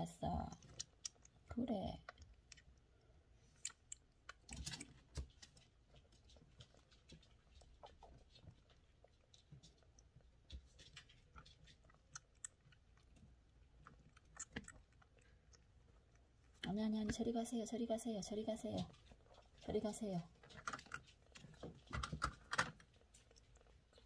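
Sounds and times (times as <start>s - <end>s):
kitten suckling from bottle: 0.4s - 17.5s, 18.8s - 24.0s.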